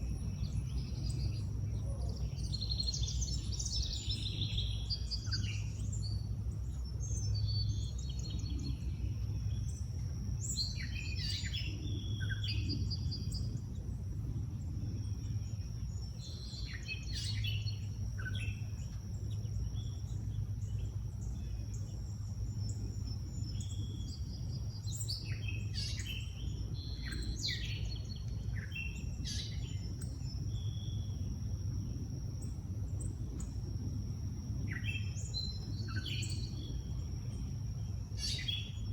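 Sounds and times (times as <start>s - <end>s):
low background rumble: 0.0s - 38.9s
songbirds singing: 0.0s - 38.9s.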